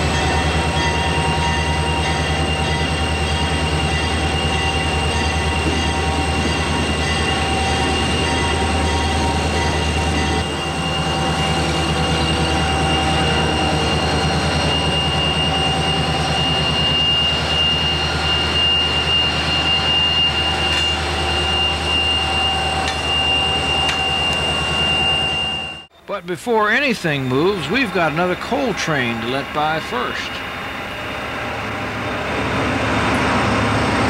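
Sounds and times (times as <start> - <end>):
diesel locomotives rumbling past: 0.0 - 34.0
high engine whine: 0.0 - 34.0.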